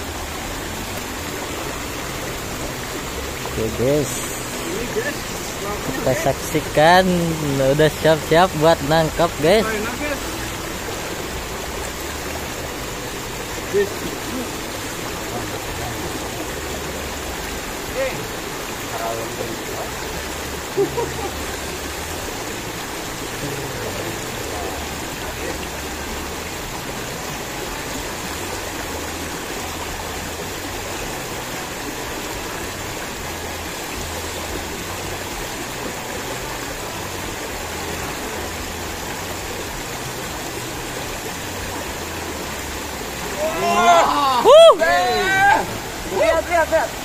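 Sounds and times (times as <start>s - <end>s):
shallow river flowing: 0.0s - 47.0s.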